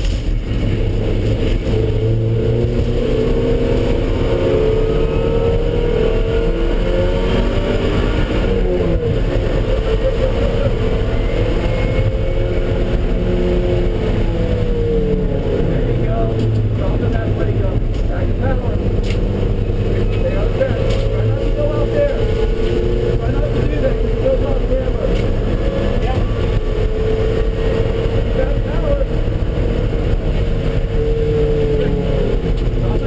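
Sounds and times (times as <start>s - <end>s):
car engine running under load: 0.0s - 33.0s.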